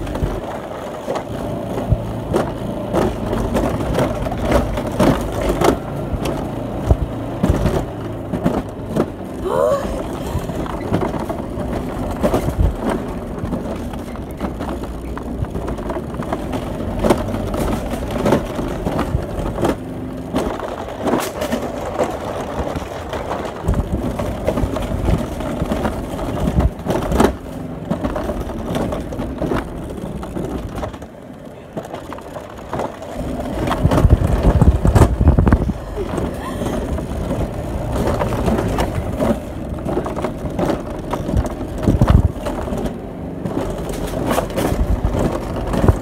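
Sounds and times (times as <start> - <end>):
clacks and knocks on rail: 0.0 - 46.0
coaster wheels rolling rumble: 0.0 - 46.0.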